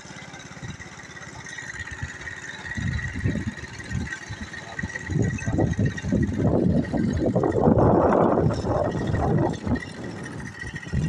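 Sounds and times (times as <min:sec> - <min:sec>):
vehicle engine running: 0:00.0 - 0:11.0
wind buffeting microphone: 0:01.9 - 0:11.0.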